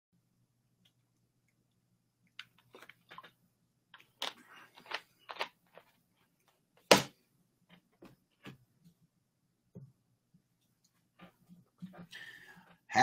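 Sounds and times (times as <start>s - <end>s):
faint low hum: 0.2s - 13.0s.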